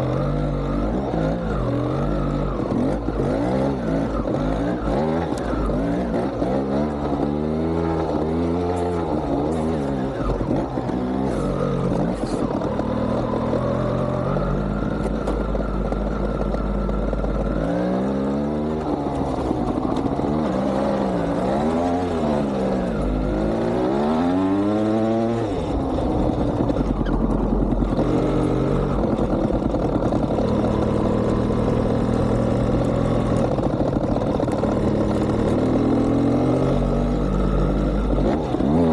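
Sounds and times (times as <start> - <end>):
two-stroke motorcycle engine revving: 0.0 - 38.9.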